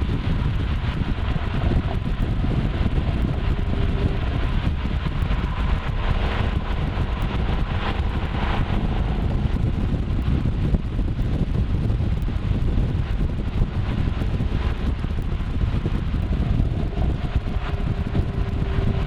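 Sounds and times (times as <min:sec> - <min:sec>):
car engine rumbling: 0:00.0 - 0:19.0
road and wind noise: 0:00.0 - 0:19.0.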